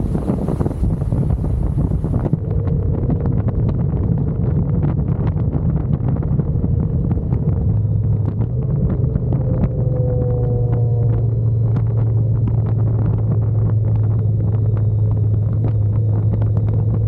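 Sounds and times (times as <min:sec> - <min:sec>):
motorcycle engine drone: 0:00.0 - 0:17.0
wind buffeting microphone: 0:00.0 - 0:17.0.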